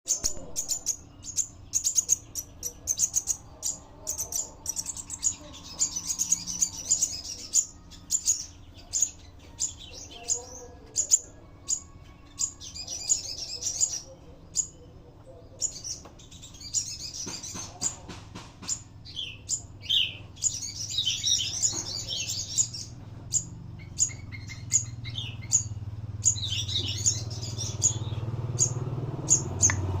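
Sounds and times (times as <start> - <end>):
bird chirping: 0.1 - 30.0.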